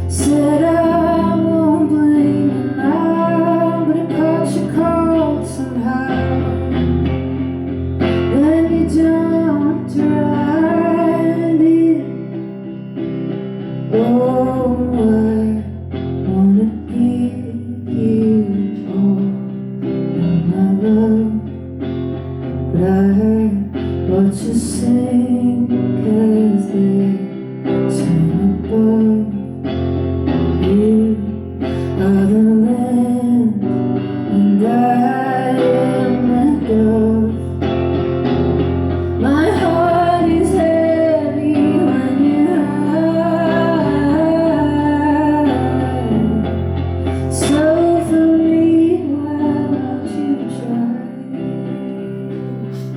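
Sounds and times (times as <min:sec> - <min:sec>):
woman singing: 0:00.0 - 0:13.0, 0:13.8 - 0:21.7, 0:22.7 - 0:29.6, 0:30.5 - 0:37.7, 0:39.1 - 0:52.9
acoustic guitar accompaniment: 0:00.0 - 0:52.9.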